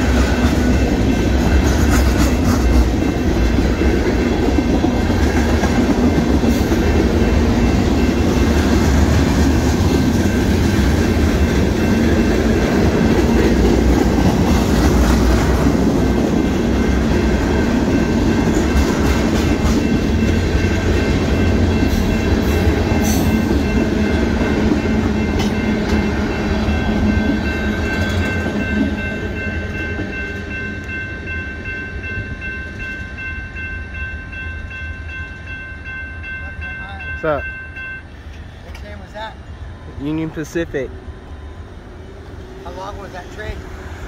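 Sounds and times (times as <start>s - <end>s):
rail clacks: 0.0s - 40.9s
crossing signal bells ringing: 0.0s - 43.6s
freight train wheels rumbling: 0.0s - 44.0s.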